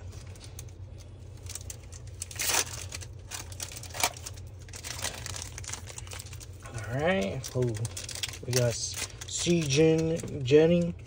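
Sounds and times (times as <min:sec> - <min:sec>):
foil packs crinkling and rustling: 0:00.0 - 0:11.0.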